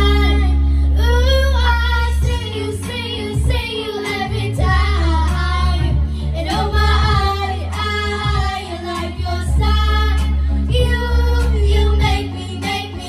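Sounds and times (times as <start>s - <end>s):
backing track with heavy bass: 0.0s - 13.0s
girls singing karaoke: 0.0s - 13.0s.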